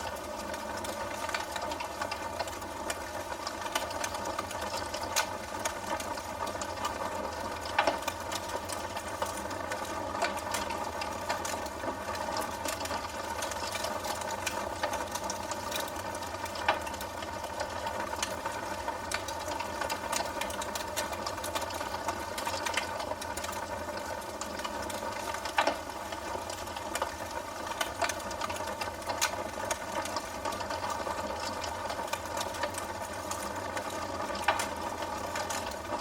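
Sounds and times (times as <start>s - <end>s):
steady hiss and hum: 0.0s - 36.0s
wood fire crackling: 0.0s - 36.0s.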